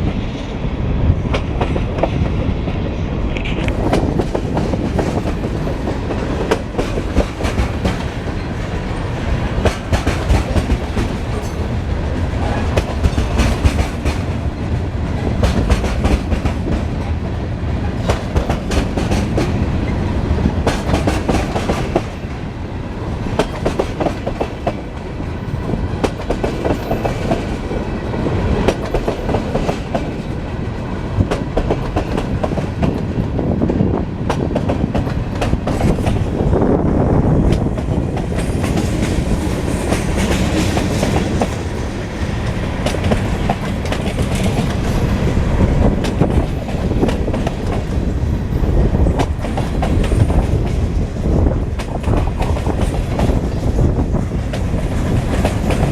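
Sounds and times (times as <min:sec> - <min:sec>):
train wheels clickety-clack on rails: 0:00.0 - 0:55.9.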